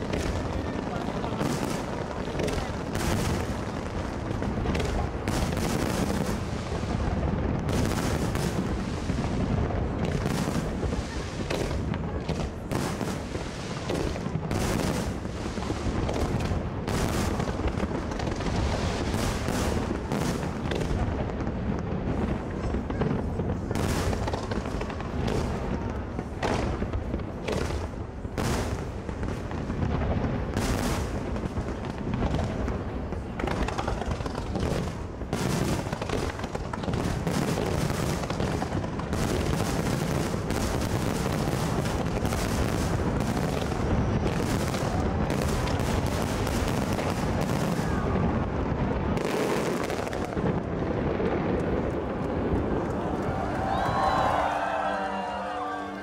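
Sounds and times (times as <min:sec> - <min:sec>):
fireworks bangs and booms: 0:00.0 - 0:55.6.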